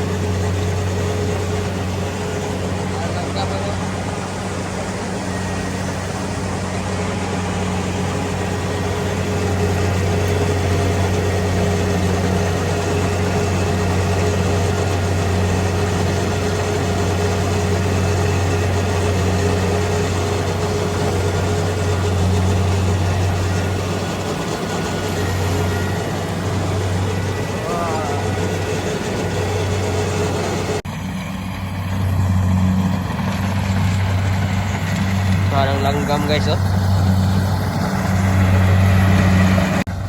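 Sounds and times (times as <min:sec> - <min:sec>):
combine harvester engine humming: 0:00.0 - 0:40.0.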